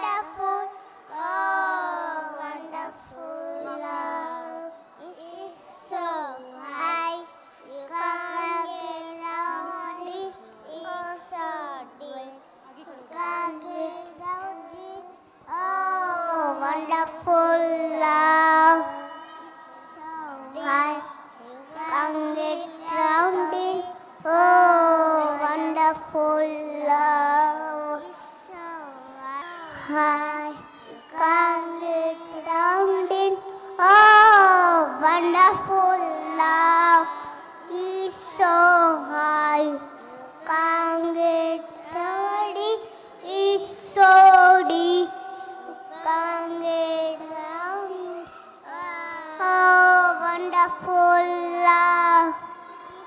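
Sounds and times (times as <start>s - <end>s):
children singing: 0.0s - 11.8s, 15.6s - 28.2s, 29.2s - 53.0s.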